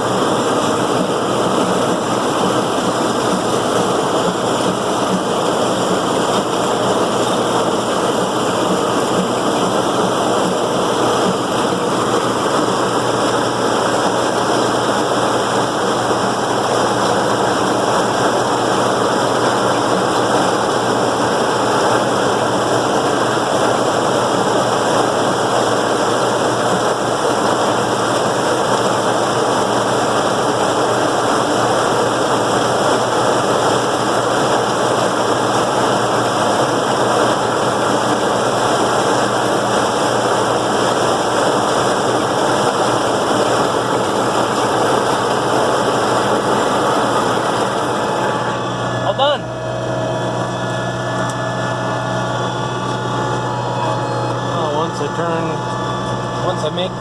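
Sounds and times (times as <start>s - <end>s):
corn picker machine running: 0.0s - 57.0s
low tractor engine hum: 0.0s - 57.0s.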